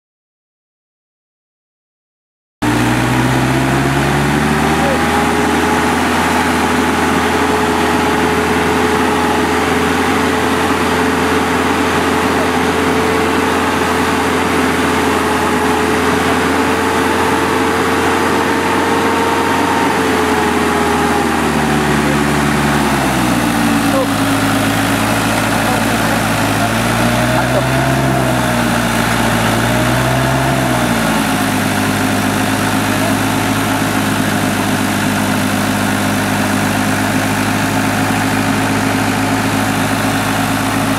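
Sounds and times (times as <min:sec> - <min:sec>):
truck engine running: 0:02.6 - 0:40.9.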